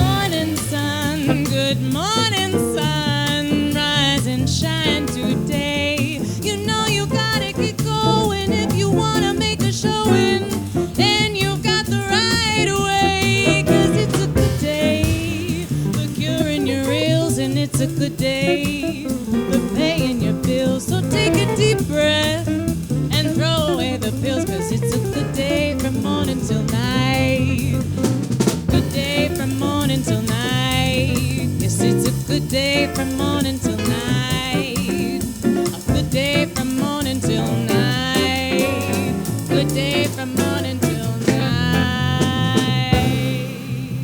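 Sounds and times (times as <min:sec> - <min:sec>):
bending lead line: 0:00.0 - 0:44.0
jazz combo playing swing: 0:00.0 - 0:44.0.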